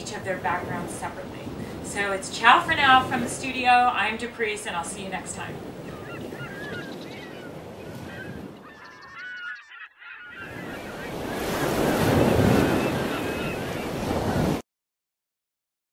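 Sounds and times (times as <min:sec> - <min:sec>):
ocean waves washing on shore: 0:00.0 - 0:08.7, 0:10.3 - 0:14.6
birds calling: 0:01.5 - 0:14.6.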